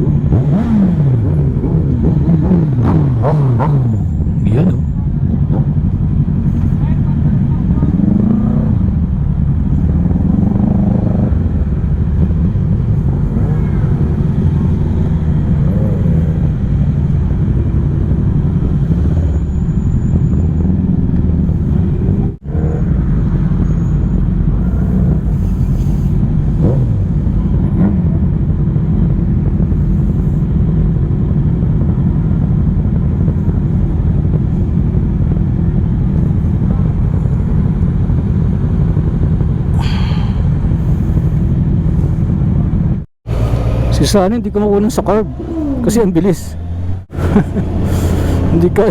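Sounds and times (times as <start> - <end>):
motorcycle engine rumble: 0.0 - 48.9.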